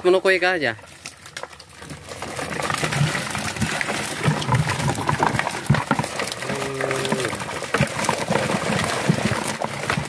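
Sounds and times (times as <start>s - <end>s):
fish thrashing against wire mesh: 0.8s - 10.0s.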